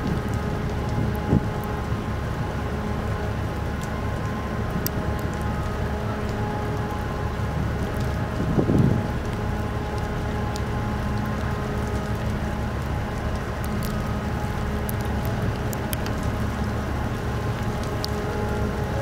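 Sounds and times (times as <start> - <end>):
ship engines rumbling: 0.0 - 19.0
light ticks: 3.2 - 19.0.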